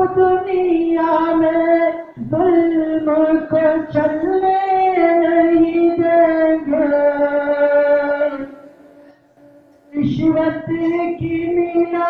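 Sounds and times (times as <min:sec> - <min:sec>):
person singing long held notes: 0:00.0 - 0:12.0.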